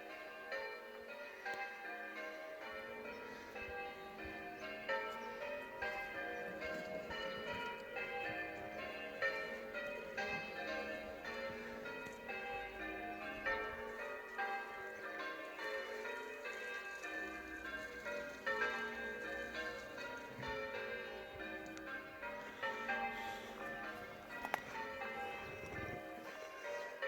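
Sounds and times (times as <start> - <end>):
church bells pealing: 0.0 - 27.0.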